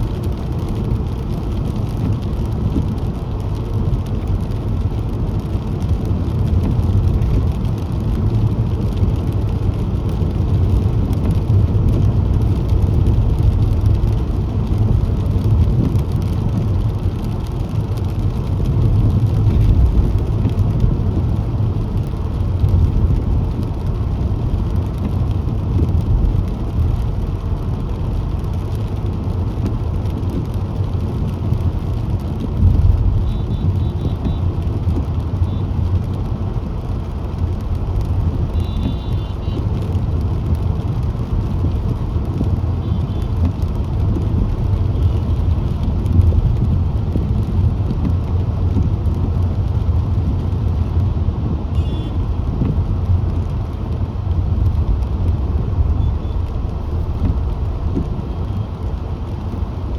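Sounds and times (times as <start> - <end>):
car engine and tyre rumble: 0.0 - 59.9
surrounding traffic: 0.0 - 59.9.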